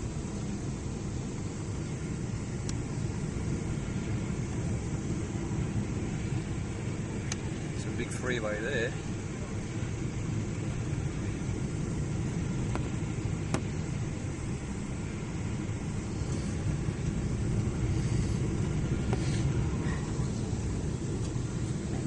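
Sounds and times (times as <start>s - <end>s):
engine and airflow rumble: 0.0s - 22.0s.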